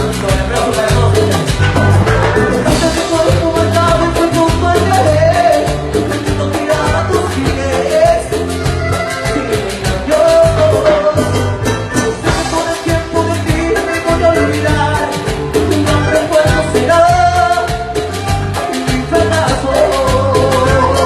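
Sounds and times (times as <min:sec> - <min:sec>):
live band playing latin dance music: 0:00.0 - 0:21.0.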